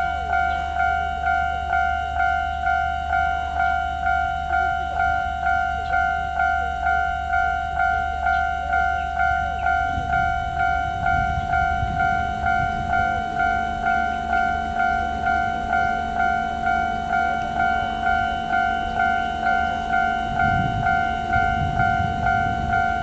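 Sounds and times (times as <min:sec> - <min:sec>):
level-crossing warning bell: 0:00.0 - 0:23.0.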